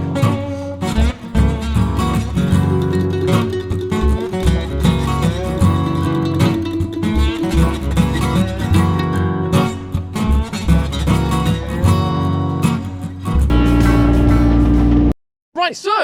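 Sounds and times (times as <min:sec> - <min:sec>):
acoustic guitar strumming and picking: 0:00.0 - 0:15.1.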